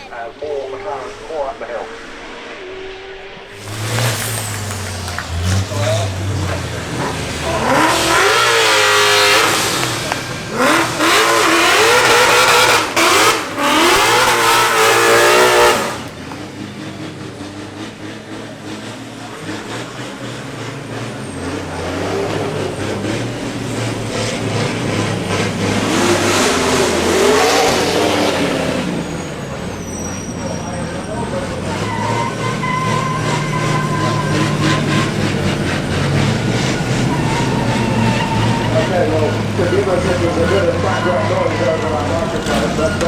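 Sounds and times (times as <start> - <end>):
sports car engine accelerating: 1.1 - 43.0.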